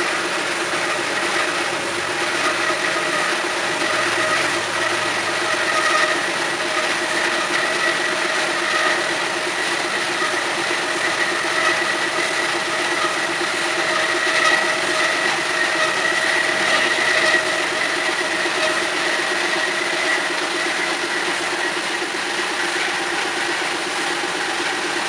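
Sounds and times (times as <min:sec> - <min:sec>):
band saw humming: 0:00.0 - 0:25.0.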